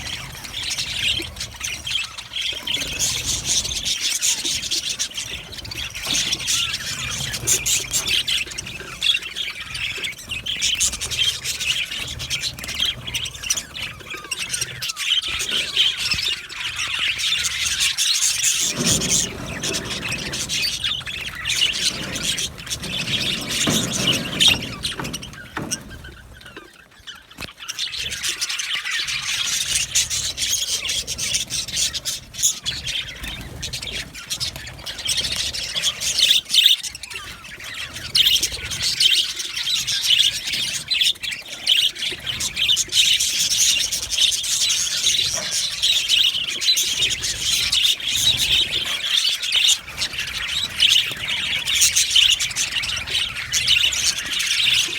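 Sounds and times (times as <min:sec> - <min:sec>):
budgerigars chirping and chattering: 0:00.0 - 0:54.9.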